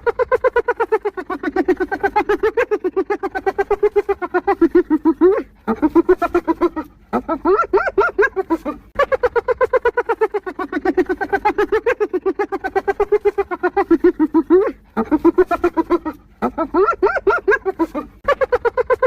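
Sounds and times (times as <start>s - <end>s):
hyena giggling: 0.0s - 19.0s.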